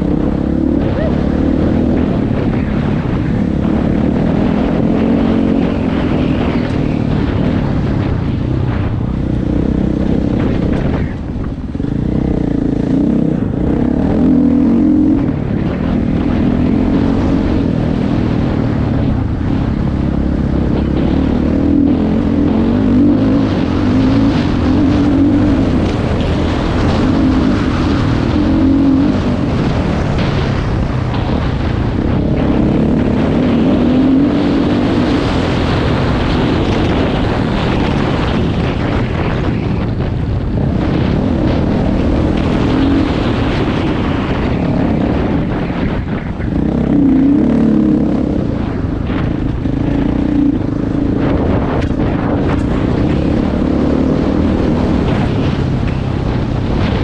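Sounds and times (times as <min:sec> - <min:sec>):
dirt bike engine under throttle: 0:00.0 - 0:57.0.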